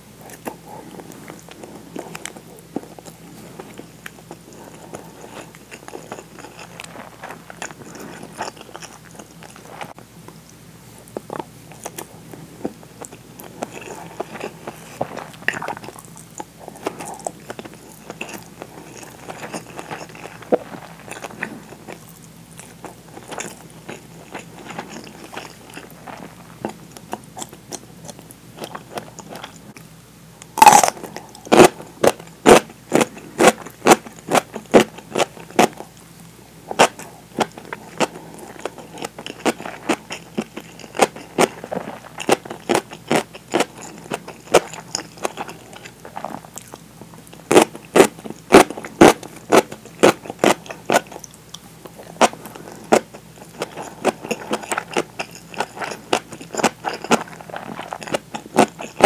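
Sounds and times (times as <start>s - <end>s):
soft chewing: 0.0s - 59.0s
crunching of pickled radish: 0.2s - 29.8s, 30.4s - 59.0s.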